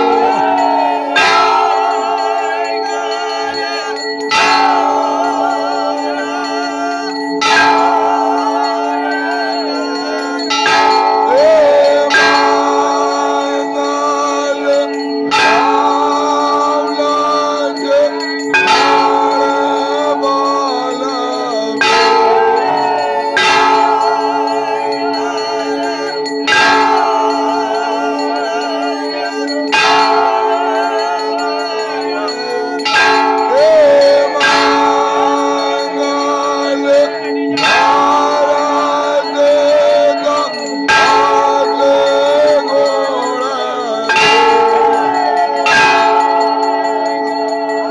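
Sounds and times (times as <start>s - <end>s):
temple bells ringing: 0.0s - 47.9s
wavering held tone: 0.0s - 47.9s.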